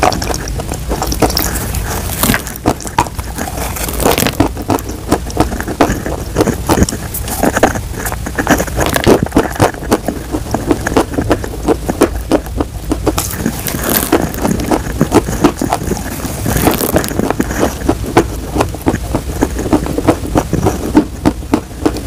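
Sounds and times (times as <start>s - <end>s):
chewing crunchy chalk: 0.0s - 22.0s.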